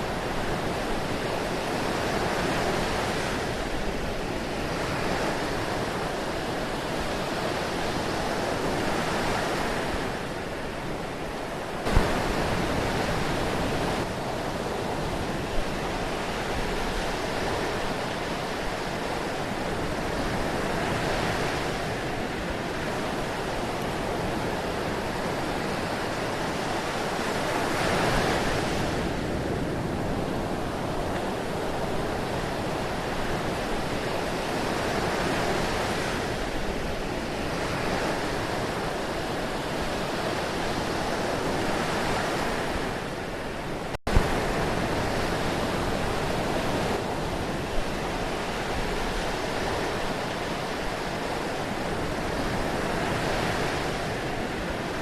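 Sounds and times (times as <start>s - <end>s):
ocean surf washing in: 0.0s - 55.0s.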